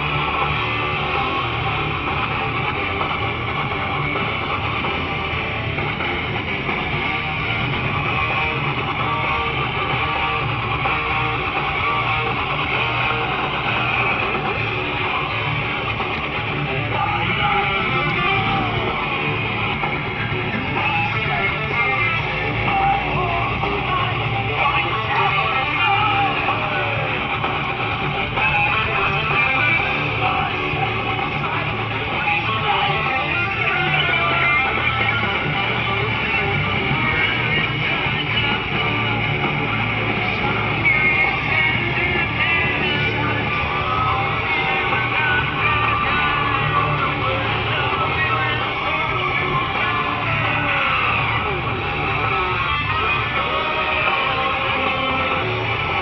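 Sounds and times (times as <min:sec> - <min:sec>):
distorted electric guitars: 0:00.0 - 0:56.0
heavy metal music: 0:00.0 - 0:56.0.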